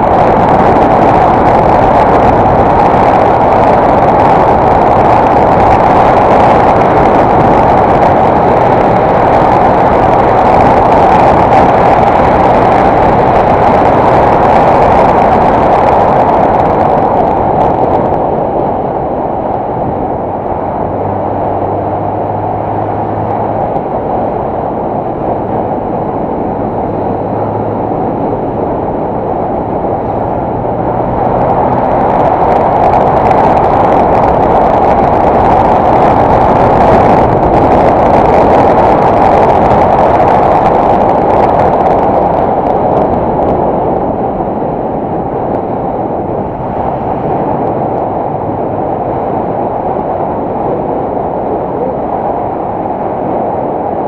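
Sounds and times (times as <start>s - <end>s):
motorcycle engine hum: 0.0s - 54.0s
wind rush on microphone: 0.0s - 54.0s.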